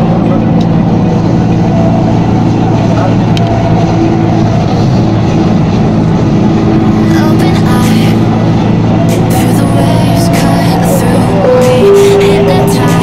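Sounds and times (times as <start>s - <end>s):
metro train running: 0.0s - 13.0s.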